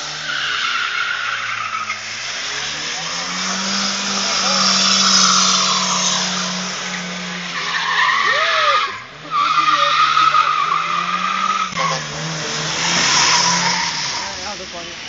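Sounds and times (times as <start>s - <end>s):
car engine running: 0.0s - 15.0s
tyres squealing: 0.0s - 15.0s.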